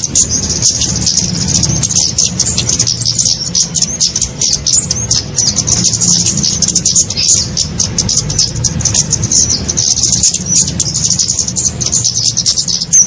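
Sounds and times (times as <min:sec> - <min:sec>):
low hum: 0:00.0 - 0:13.0
songbirds chirping and twittering: 0:00.0 - 0:13.0.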